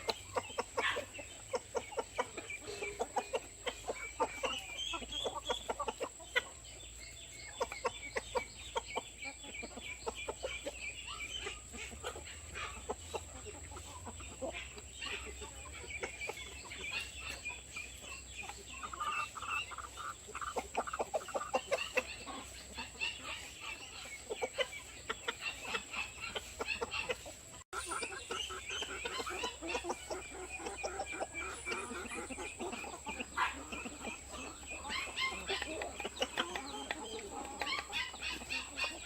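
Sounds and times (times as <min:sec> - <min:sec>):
hens clucking: 0:00.0 - 0:39.0.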